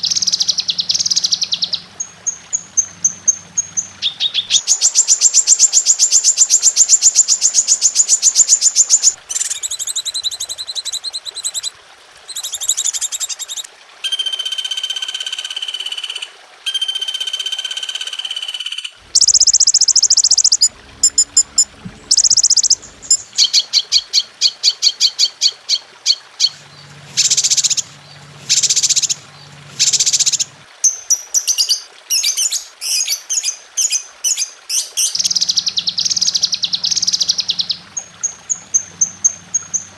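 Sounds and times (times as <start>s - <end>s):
birds calling and singing: 0.0s - 11.7s, 18.6s - 39.9s.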